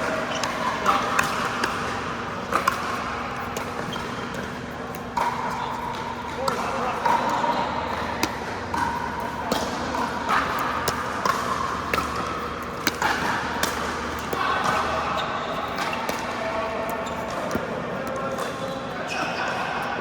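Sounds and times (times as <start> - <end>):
ball bouncing on court: 0.0 - 18.7.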